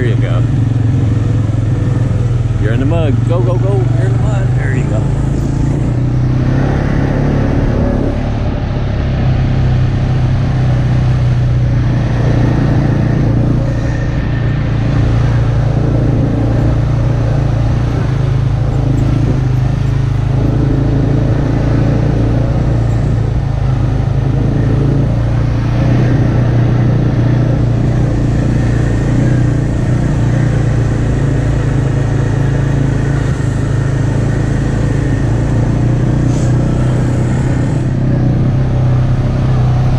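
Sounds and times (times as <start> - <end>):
atv engine running: 0.0 - 39.9
trail rumble on dirt track: 0.0 - 39.9
wind: 0.0 - 39.9.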